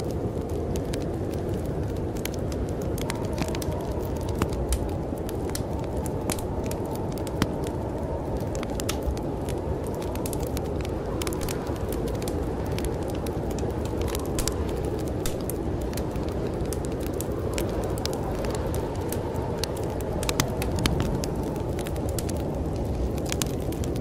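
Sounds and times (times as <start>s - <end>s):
sharp fire pops: 0.0s - 24.0s
snowstorm wind rushing: 0.0s - 24.0s
wood fire crackling: 0.0s - 24.0s.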